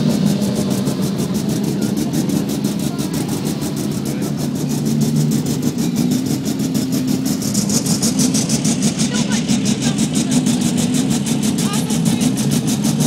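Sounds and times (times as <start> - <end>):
rally car engine idling: 0.0 - 13.0.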